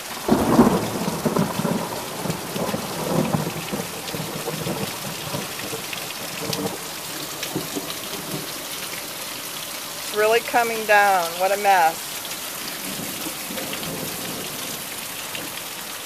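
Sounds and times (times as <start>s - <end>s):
low rumble of thunder: 0.0s - 10.0s, 12.0s - 16.0s
steady hiss of rain: 0.0s - 16.0s
water pouring off roof edge: 0.0s - 16.0s.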